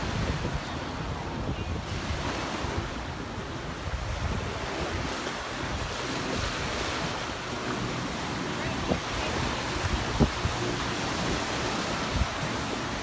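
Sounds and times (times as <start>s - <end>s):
surf washing onto sand: 0.0s - 13.0s
wind buffeting microphone: 0.0s - 13.0s.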